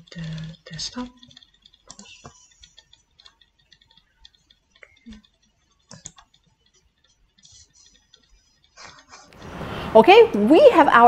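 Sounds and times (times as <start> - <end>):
mouse and keyboard clicks: 0.0 - 9.4.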